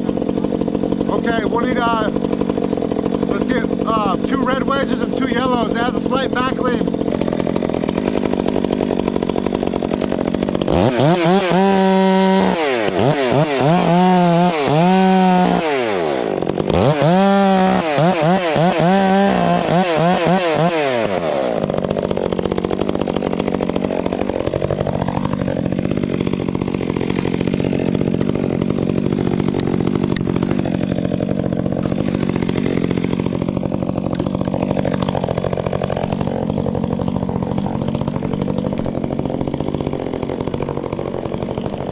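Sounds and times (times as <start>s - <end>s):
chainsaw revving and idling: 0.0s - 41.9s.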